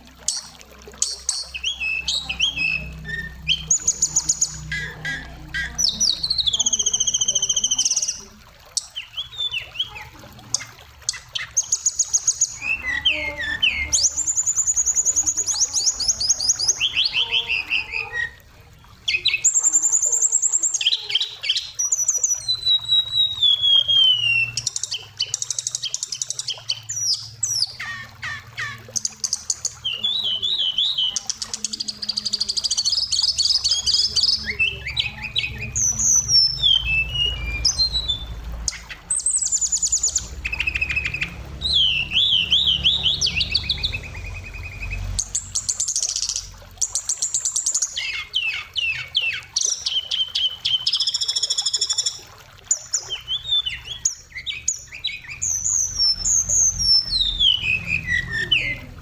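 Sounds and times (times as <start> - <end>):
bird singing whistles and trills: 0.2 - 59.0.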